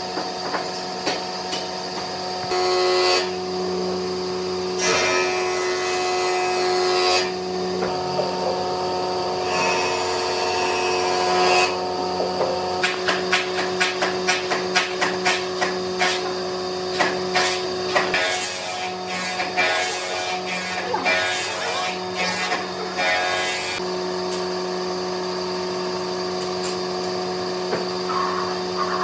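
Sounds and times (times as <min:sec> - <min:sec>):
woodworking power tool humming: 0:00.0 - 0:29.0.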